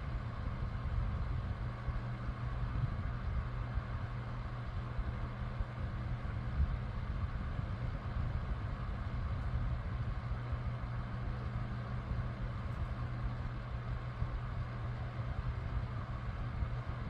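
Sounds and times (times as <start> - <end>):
electric fan running: 0.0 - 17.0.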